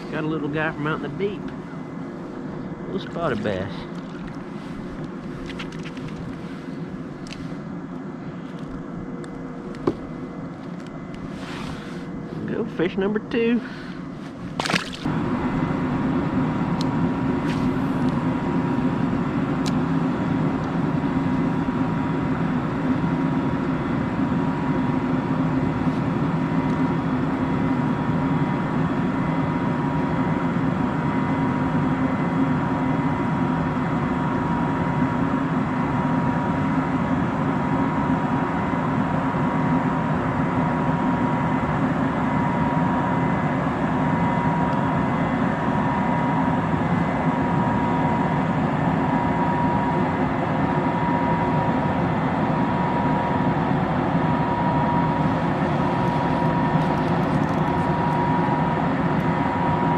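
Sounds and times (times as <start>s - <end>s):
motor hum with whine: 0.0s - 59.9s.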